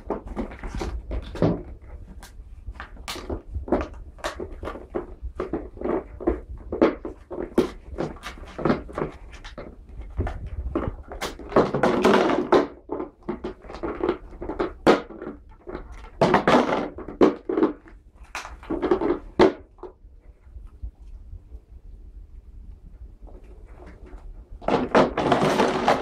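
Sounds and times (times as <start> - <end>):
knocks and rustles: 0.0 - 20.4, 23.2 - 26.0.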